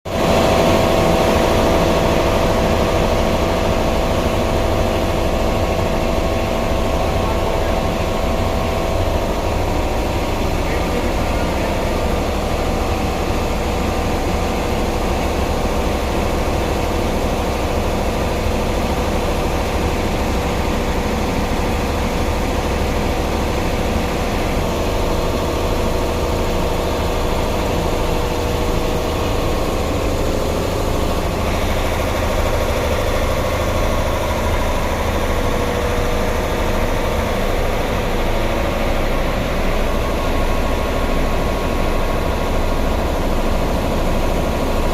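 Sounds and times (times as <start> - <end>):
machinery droning: 0.1 - 44.9.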